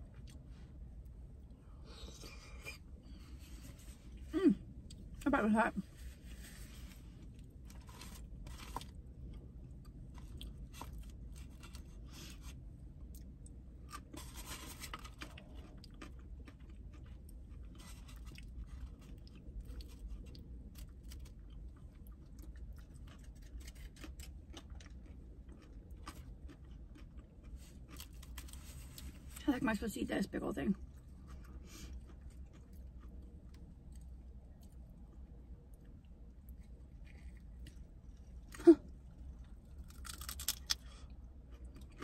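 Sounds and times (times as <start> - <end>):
steady low hum: 0.0 - 42.0
person chewing food: 6.0 - 29.3, 30.8 - 42.0.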